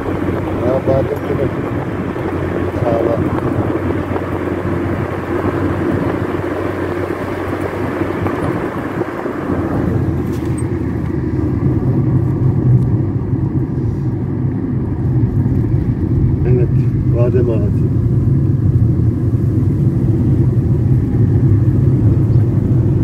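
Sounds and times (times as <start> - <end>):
car interior road noise: 0.0 - 23.0.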